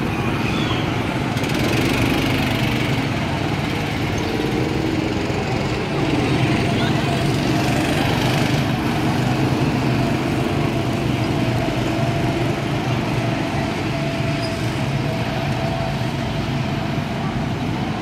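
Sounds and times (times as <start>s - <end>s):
go-kart engines running: 0.0s - 18.0s.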